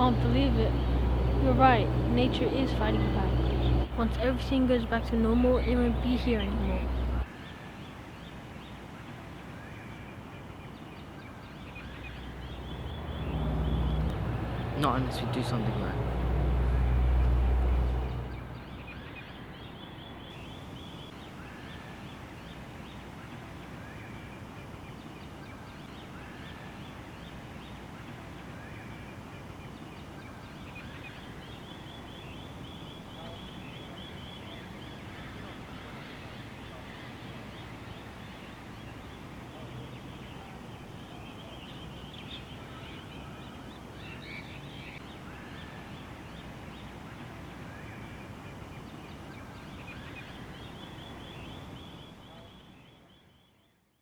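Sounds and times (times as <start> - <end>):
steady background noise: 0.0 - 53.2
birds chirping: 0.0 - 54.0.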